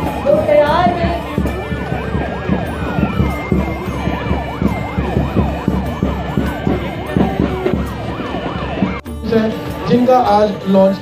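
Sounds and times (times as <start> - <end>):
siren wail: 0.0 - 9.1
siren yelp: 0.0 - 9.1
low rhythmic thudding: 0.0 - 10.2.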